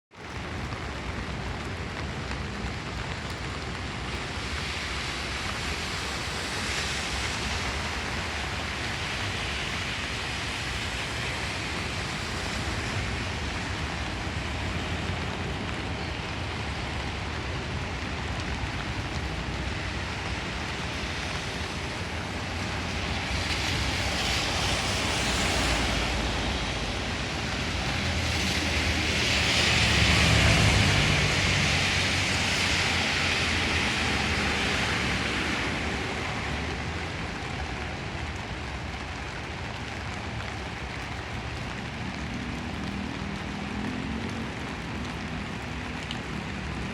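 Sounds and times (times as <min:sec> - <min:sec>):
heavy rain hissing: 0:00.2 - 0:46.9.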